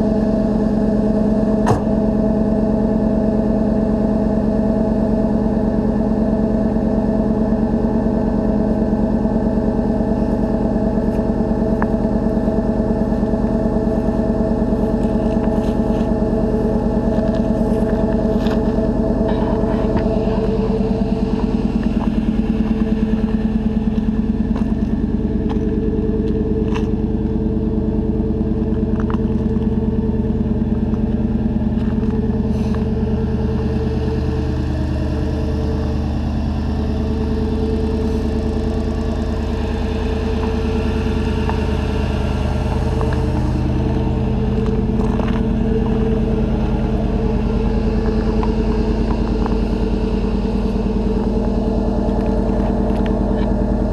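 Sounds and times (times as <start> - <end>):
pickup truck engine idling: 0.0 - 53.9.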